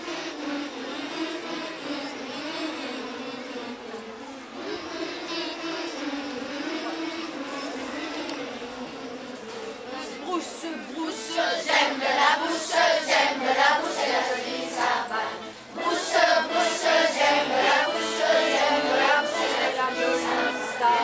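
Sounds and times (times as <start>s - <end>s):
accordion chords: 0.0s - 21.0s
children's choir singing: 0.0s - 21.0s.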